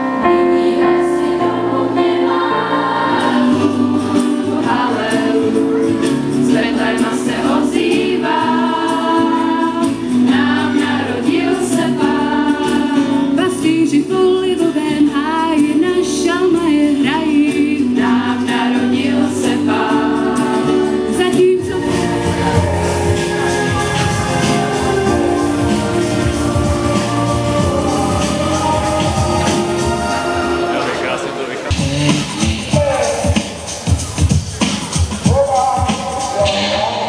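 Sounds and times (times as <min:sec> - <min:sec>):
choir of young voices singing: 0:00.0 - 0:31.4
instrumental accompaniment: 0:00.0 - 0:37.0.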